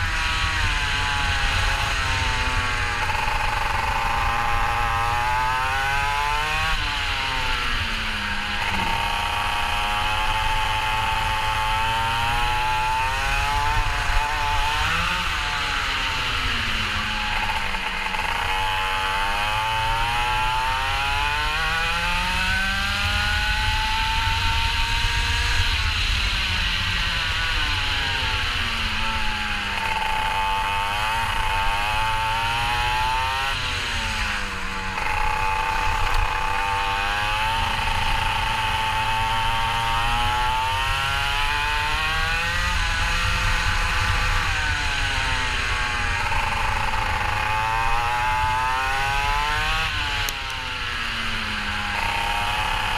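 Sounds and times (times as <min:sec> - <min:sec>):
kart engine revving: 0:00.0 - 0:52.9.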